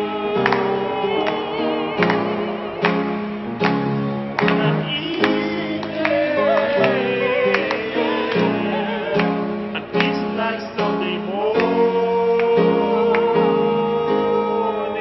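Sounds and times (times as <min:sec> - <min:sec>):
people clapping: 0:00.0 - 0:14.6
piano chords: 0:00.0 - 0:15.0.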